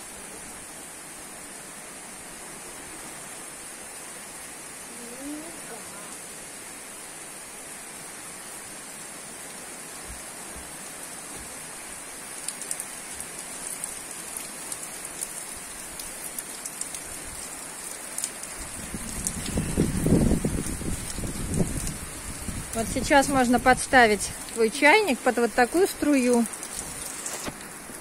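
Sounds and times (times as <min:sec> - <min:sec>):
deep rush of water: 0:00.0 - 0:28.0
heavy rain: 0:00.0 - 0:28.0.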